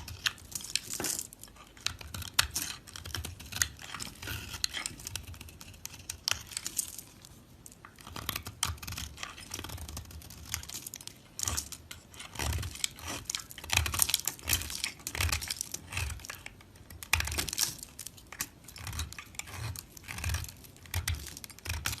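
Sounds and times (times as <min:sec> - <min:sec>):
knife cutting dry soap: 0:00.0 - 0:07.1, 0:07.9 - 0:22.0.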